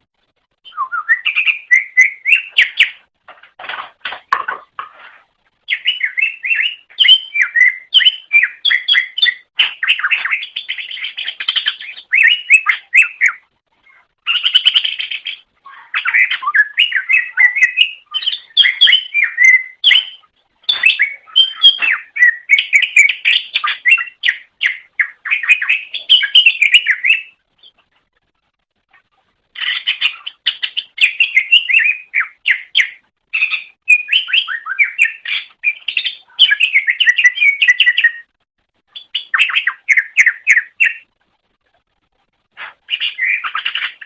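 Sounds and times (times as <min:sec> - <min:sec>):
bird singing chirps and whistles: 0:00.6 - 0:03.0, 0:05.7 - 0:27.8, 0:29.6 - 0:38.3, 0:38.9 - 0:41.1, 0:42.9 - 0:44.0.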